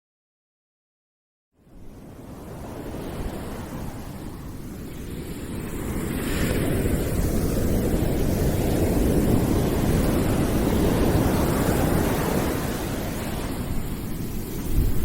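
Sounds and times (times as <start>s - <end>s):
low rushing surf-like noise: 2.0s - 15.0s.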